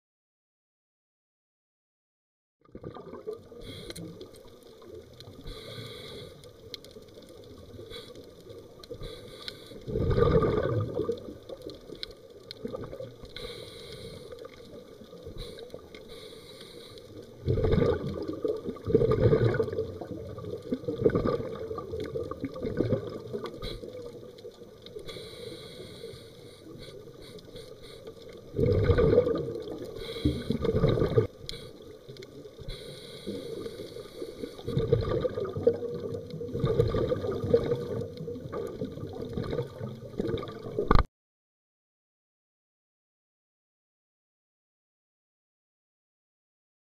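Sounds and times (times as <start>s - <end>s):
underwater bubbling rushes: 2.6s - 41.1s
low underwater hiss: 2.9s - 41.0s.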